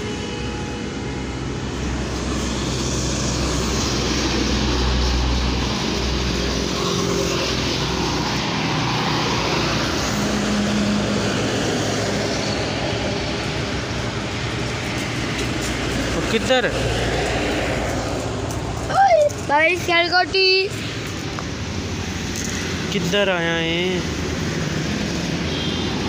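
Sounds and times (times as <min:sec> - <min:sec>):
heavy truck passing: 0:00.0 - 0:26.0
vehicles passing: 0:00.0 - 0:26.0.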